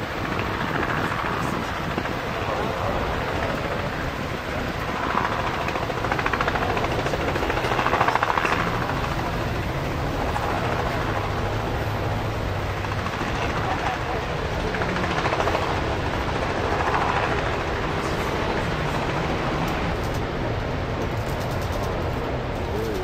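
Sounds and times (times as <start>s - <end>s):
helicopter droning overhead: 0.0s - 23.0s
wind and surf rushing: 0.0s - 23.0s.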